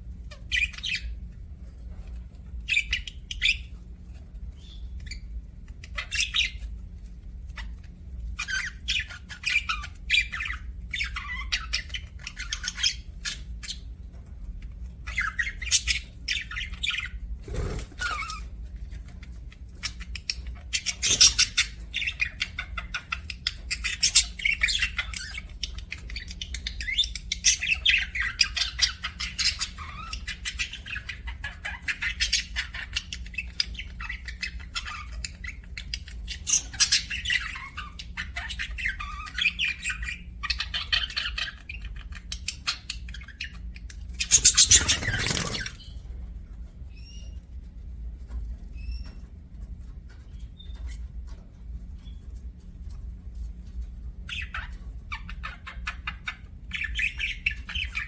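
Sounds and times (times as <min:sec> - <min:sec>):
budgerigars chirping and chattering: 0:00.1 - 0:46.1, 0:48.6 - 0:52.6, 0:53.6 - 0:58.0.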